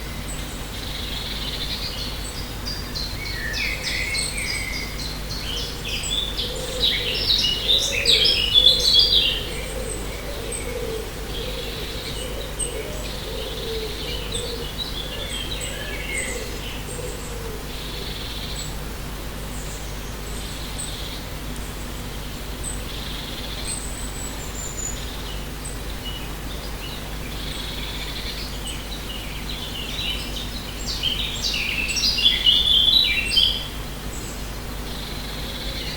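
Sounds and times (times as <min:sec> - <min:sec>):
low background hum: 0:00.0 - 0:35.9
songbirds chirping: 0:00.0 - 0:35.9.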